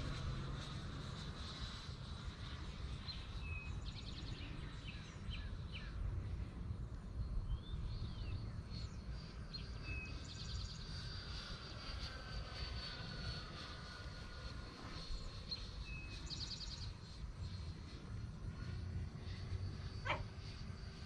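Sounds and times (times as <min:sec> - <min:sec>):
faint high electric fan whine: 0:00.0 - 0:21.0
low steady rumble: 0:00.0 - 0:21.0.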